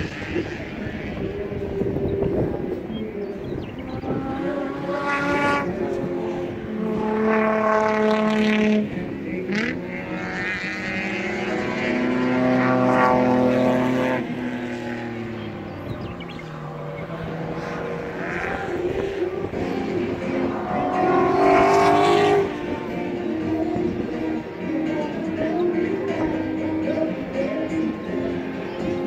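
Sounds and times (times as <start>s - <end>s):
lower quieter engine: 0.0s - 29.0s
race car engines passing: 0.0s - 29.0s.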